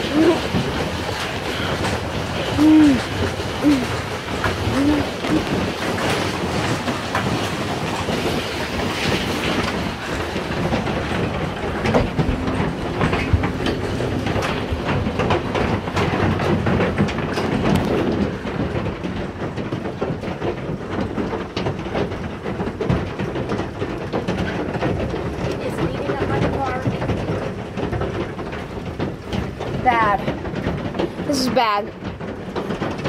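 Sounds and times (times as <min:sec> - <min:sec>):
hail and heavy rain pounding: 0:00.0 - 0:33.0.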